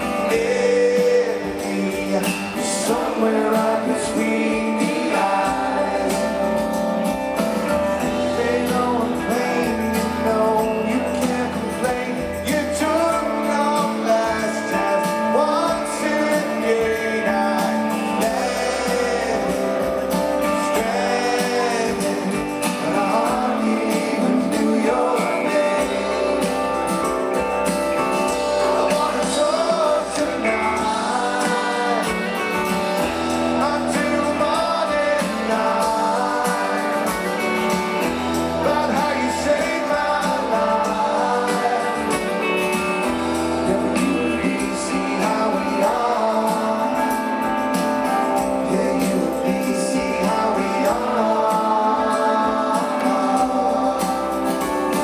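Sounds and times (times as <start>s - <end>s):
person singing: 0.0s - 27.5s, 28.1s - 55.0s
bass line: 0.0s - 55.0s
guitars: 0.0s - 55.0s.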